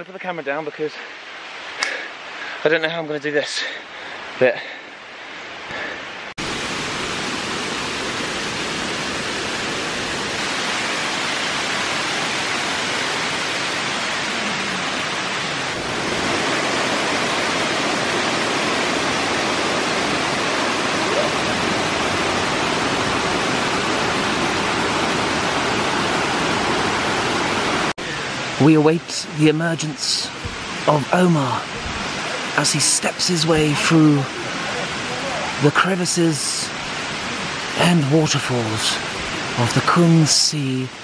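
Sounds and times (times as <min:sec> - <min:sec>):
waterfall rushing over rocks: 0:00.0 - 0:41.0.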